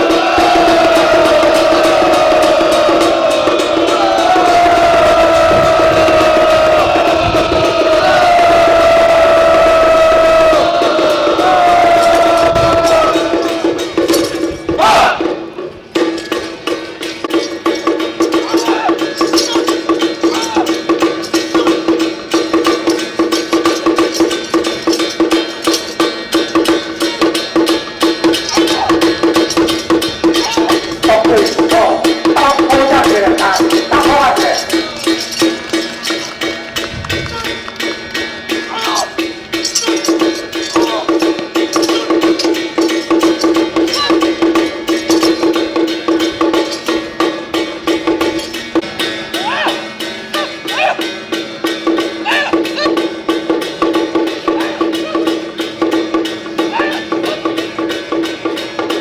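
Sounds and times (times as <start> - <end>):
cymbals crashing: 0.0 - 59.0
drum beating fast rhythm: 0.0 - 59.0
metallic ringing: 10.7 - 59.0.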